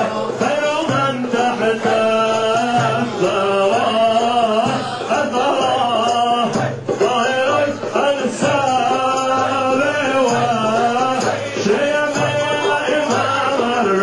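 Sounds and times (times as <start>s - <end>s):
men singing and chanting: 0.0s - 14.0s.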